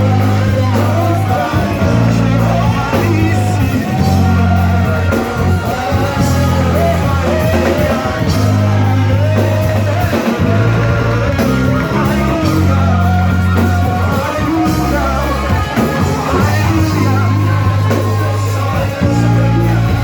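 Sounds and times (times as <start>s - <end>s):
church worship music: 0.0s - 20.0s.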